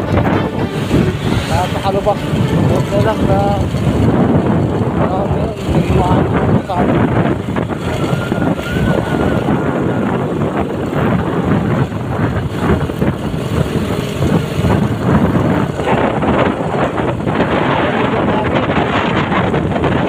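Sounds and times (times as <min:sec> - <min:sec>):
wind and road rumble: 0:00.0 - 0:20.0.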